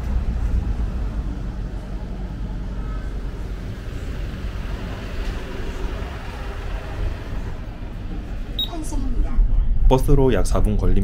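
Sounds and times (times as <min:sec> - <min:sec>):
road traffic hum: 0:00.0 - 0:09.9.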